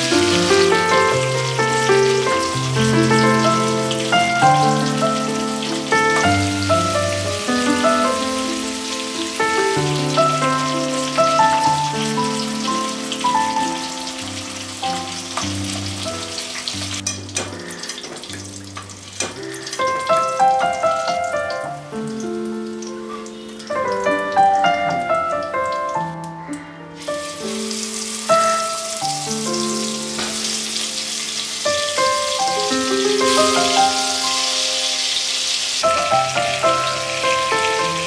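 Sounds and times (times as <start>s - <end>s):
fish sizzling in oil: 0.0s - 26.0s, 27.0s - 38.0s
background music held notes: 0.0s - 38.0s.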